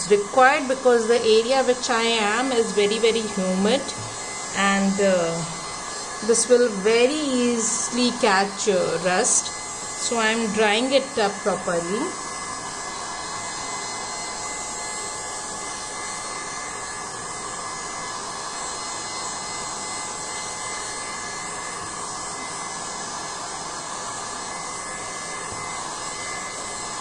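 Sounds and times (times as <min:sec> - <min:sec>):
heat gun fan blowing: 0:00.0 - 0:27.0.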